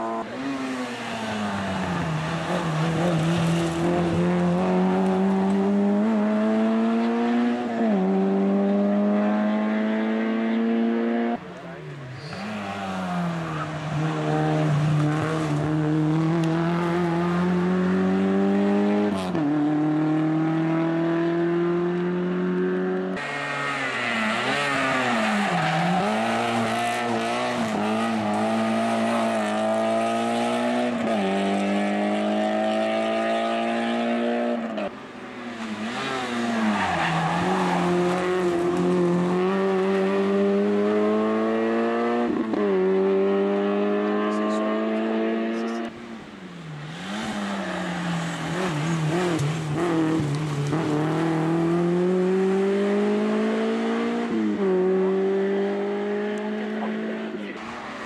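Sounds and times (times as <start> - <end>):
rally car engines at full throttle: 0.0 - 58.0.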